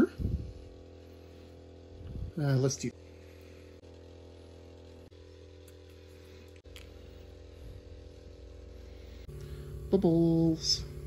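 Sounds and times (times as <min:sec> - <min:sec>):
airbrush compressor humming: 0:00.0 - 0:11.0.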